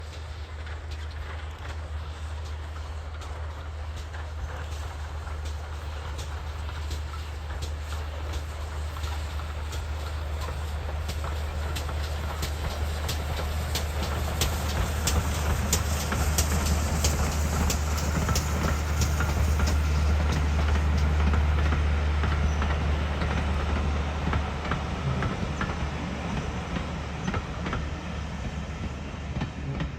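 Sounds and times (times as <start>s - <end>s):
train low rumble: 0.0s - 29.9s
wheels clicking over rail joints: 0.0s - 29.9s.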